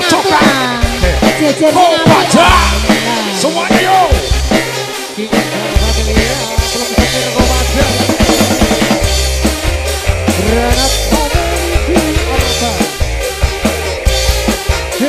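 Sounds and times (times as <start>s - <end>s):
bending melodic lead: 0.0s - 15.0s
drum kit beat: 0.0s - 15.0s
stepping bass line: 0.0s - 15.0s.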